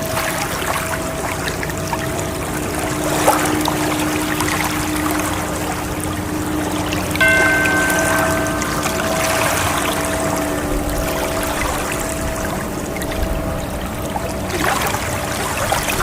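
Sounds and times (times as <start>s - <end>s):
faint sustained tones: 0.0s - 16.0s
ocean waves washing: 0.0s - 16.0s
ringing chime tone: 0.0s - 16.0s.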